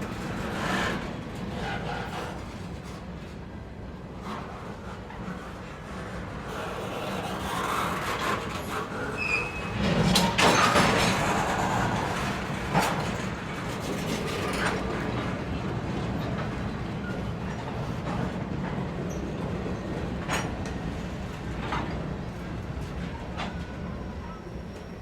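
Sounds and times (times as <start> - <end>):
train rumbling along track: 0.0 - 25.0.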